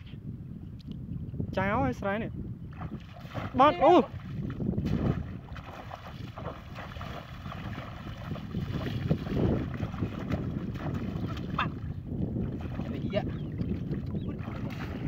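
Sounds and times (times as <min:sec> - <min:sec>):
muddy water splashing and sloshing: 0:02.7 - 0:15.0.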